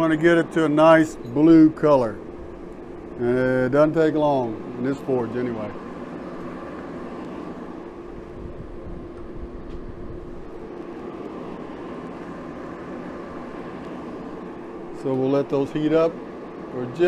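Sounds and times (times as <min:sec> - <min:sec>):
forge rushing noise: 0:00.0 - 0:17.0
steady hum: 0:00.0 - 0:17.0.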